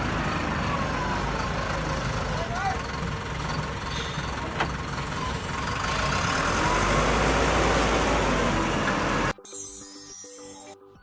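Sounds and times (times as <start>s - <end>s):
vehicle engine rumbling: 0.0s - 9.4s.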